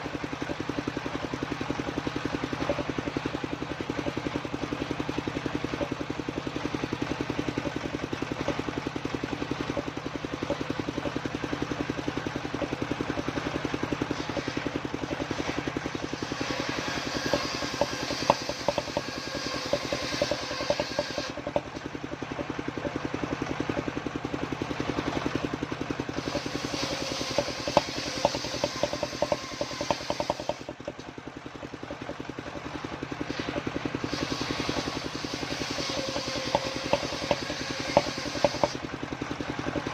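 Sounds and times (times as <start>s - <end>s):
saw blade cutting wood: 0.0s - 23.0s, 26.1s - 31.0s, 31.9s - 38.9s
saw engine running: 0.0s - 39.9s.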